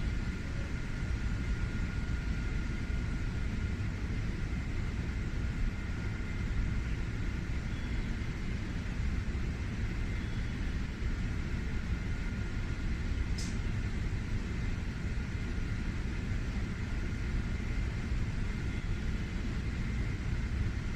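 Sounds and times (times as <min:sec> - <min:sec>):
low rumble of train platform: 0:00.0 - 0:20.9.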